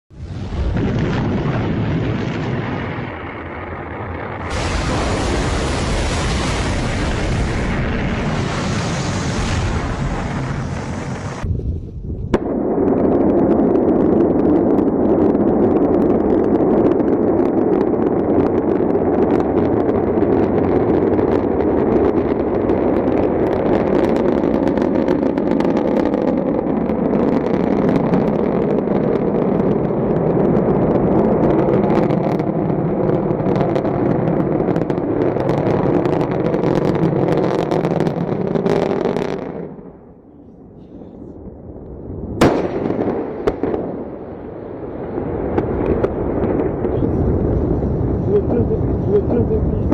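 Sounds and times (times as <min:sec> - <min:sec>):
rocket engine roar with crackling: 0:00.1 - 0:49.9.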